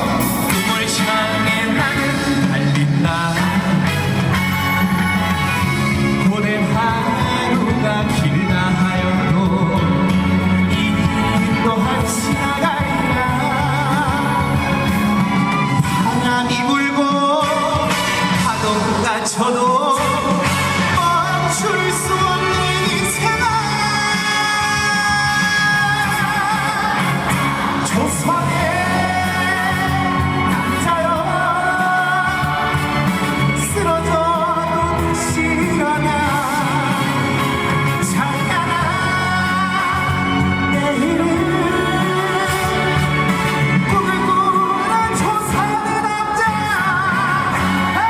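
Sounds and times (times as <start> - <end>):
backing music: 0.0 - 48.0
person singing with vibrato: 0.0 - 48.0.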